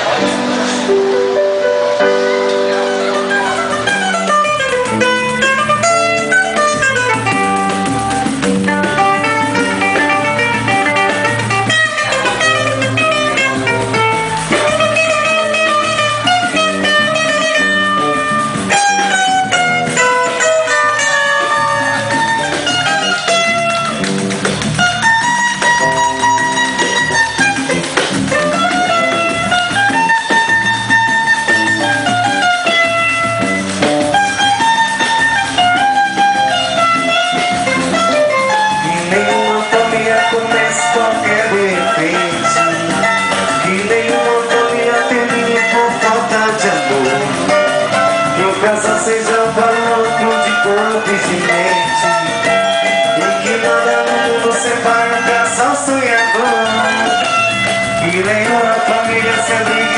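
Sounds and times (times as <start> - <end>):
bass guitar: 0.0 - 59.9
guitar picking melody: 0.0 - 59.9.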